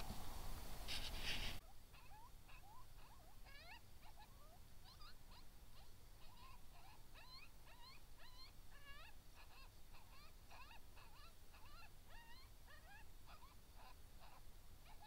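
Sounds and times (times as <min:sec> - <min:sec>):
coyotes yipping: 0:01.1 - 0:15.0.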